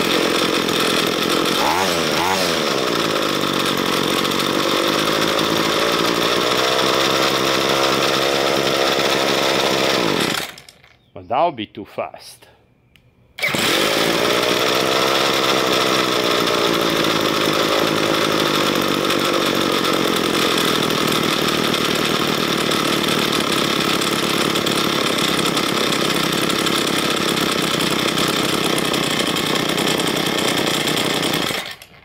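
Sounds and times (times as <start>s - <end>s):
string trimmer engine running: 0.0s - 11.0s, 13.4s - 32.0s.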